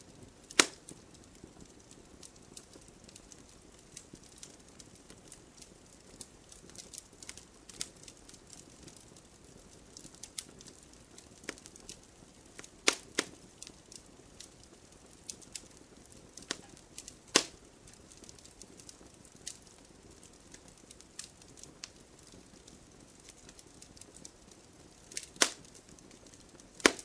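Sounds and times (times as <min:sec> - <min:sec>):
fire crackling and popping: 0:00.0 - 0:27.0
low hiss of flame: 0:00.1 - 0:27.0.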